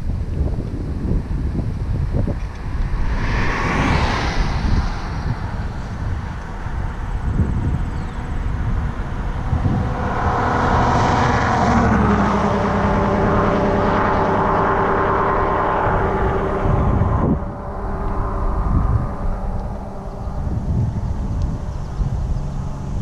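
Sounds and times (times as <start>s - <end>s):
wind noise on microphone: 0.0s - 23.0s
motor droning: 1.6s - 23.0s.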